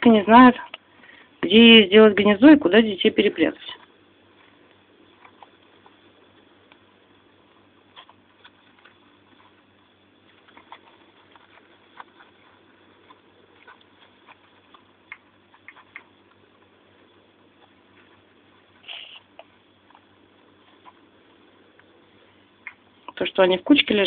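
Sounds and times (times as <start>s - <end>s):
low steady hiss: 0.0s - 24.0s.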